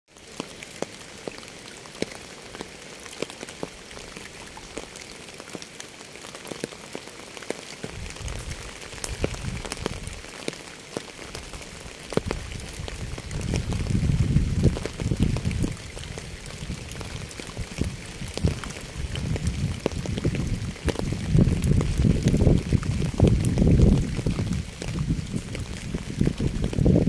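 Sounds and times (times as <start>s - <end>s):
rain hiss: 0.1s - 27.0s
raindrops ticking: 0.1s - 27.0s.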